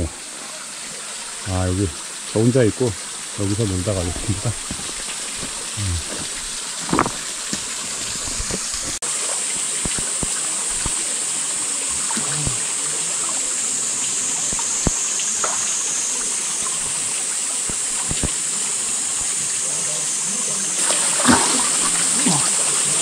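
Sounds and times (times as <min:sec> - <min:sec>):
small water splashes: 0:00.0 - 0:19.9, 0:20.8 - 0:23.0
stream running over rocks: 0:00.0 - 0:23.0.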